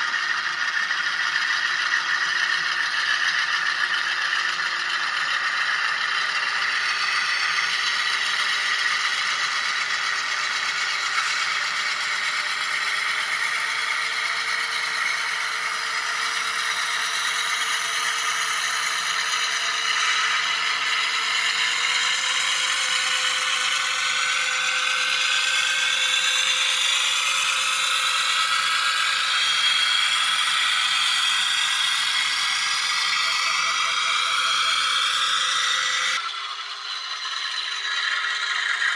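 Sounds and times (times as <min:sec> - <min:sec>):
tinny diesel engine sound: 0:00.0 - 0:38.9.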